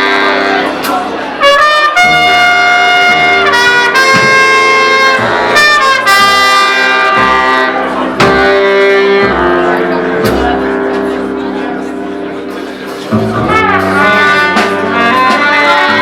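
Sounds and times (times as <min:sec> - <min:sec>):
drums: 0:00.0 - 0:16.0
wind instrument holding notes: 0:00.0 - 0:16.0.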